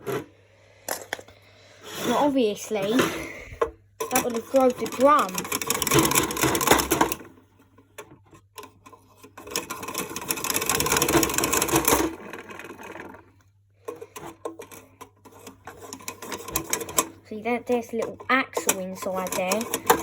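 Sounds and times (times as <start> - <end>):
toy washing machine clicking and rattling: 2.0 - 20.0.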